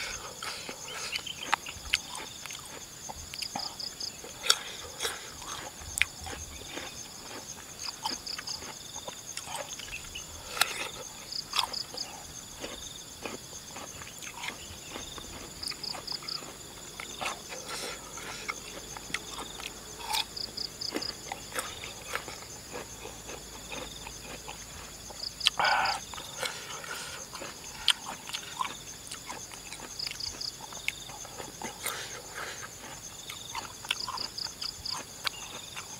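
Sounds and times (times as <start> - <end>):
crisp chewing crunches: 0.0 - 35.9
high insect drone: 0.0 - 35.9
insects chirping: 0.0 - 35.9.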